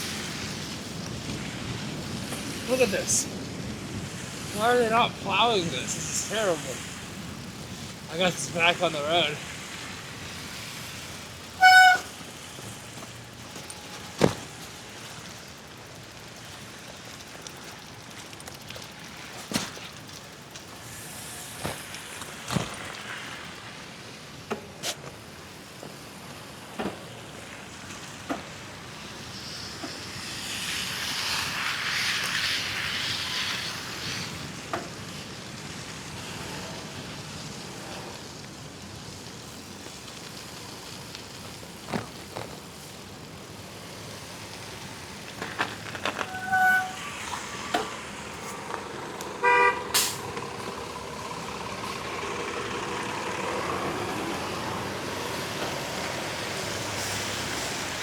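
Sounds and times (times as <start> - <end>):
bicycle tyres hissing on slush: 0.0 - 58.0
bike rattling over bumps: 0.0 - 58.0.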